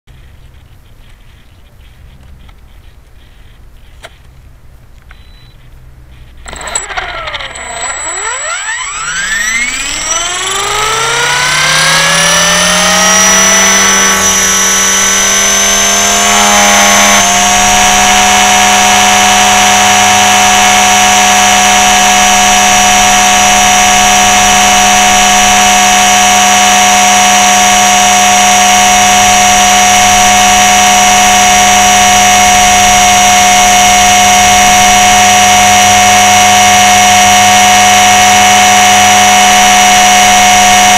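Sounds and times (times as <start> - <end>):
electric helicopter motor whine: 6.4 - 40.9.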